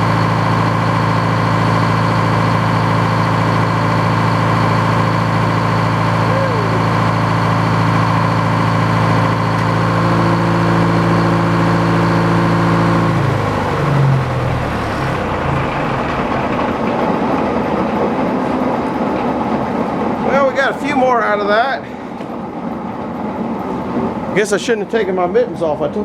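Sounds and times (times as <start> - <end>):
rough noisy machine: 0.0 - 22.3
sawmill engine running: 0.0 - 26.0.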